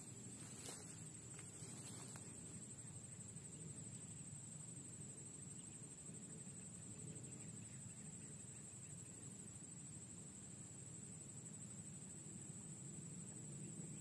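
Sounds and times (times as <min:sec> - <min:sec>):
high-pitched insect trill: 0:00.0 - 0:14.0
soft low background hum: 0:00.0 - 0:14.0.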